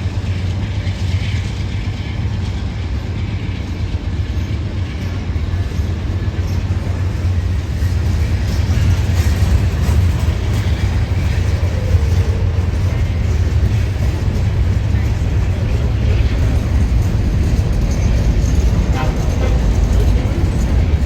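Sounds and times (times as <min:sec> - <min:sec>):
train passing with rumble: 0:00.0 - 0:21.0.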